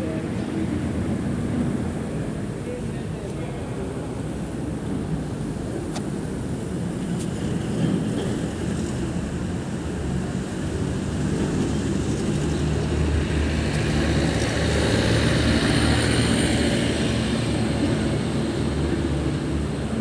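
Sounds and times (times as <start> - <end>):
vehicle engines running: 0.0 - 20.0.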